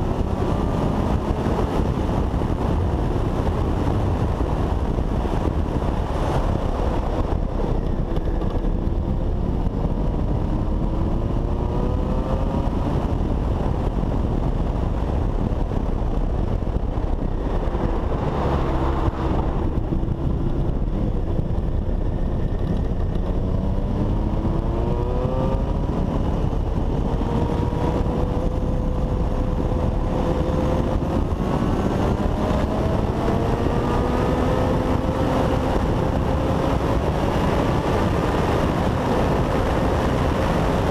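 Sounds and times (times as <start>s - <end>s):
motorcycle engine accelerating: 0.0s - 40.9s
wind over microphone: 0.0s - 40.9s.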